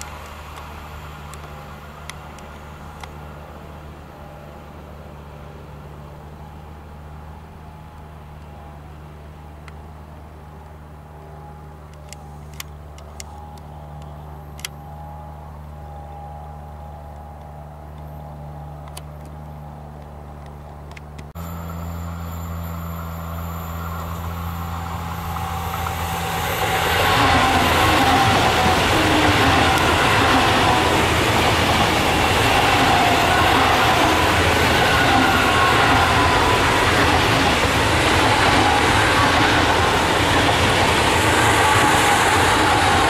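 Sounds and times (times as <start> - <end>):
high-speed train approaching: 0.0 - 43.0
train humming: 0.0 - 43.0.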